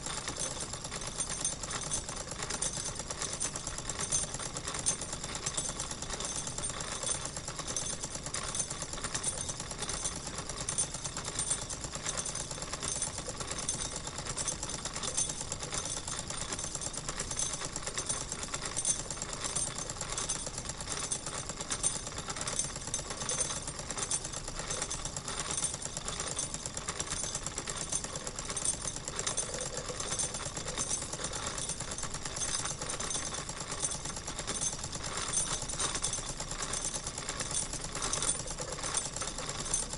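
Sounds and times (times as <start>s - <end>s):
toy steam engine clattering: 0.0s - 39.9s.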